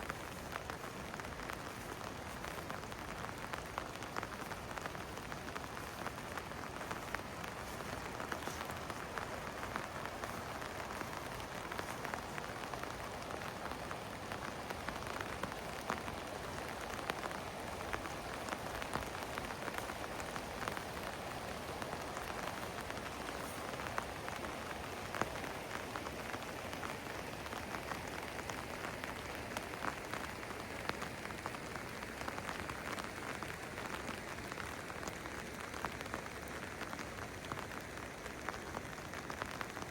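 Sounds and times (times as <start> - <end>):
steady rain hiss: 0.0 - 39.9
raindrops clicking: 0.1 - 39.9.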